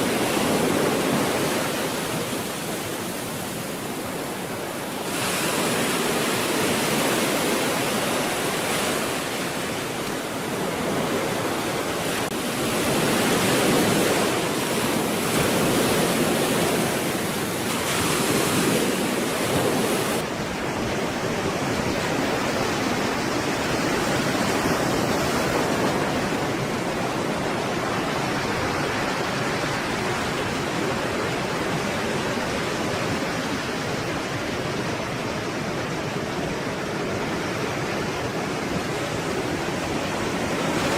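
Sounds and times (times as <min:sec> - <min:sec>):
stormy sea surf roar: 0:00.0 - 0:40.9.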